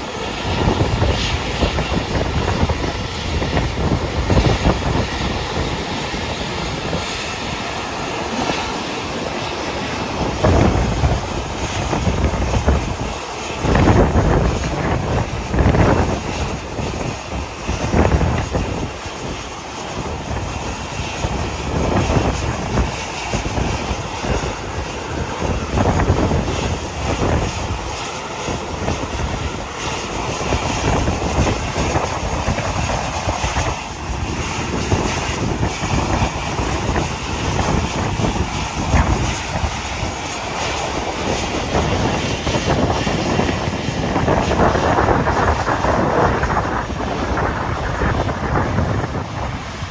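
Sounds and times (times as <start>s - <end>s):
airliner engine noise: 0.0s - 49.9s
wind buffeting microphone: 0.0s - 49.9s.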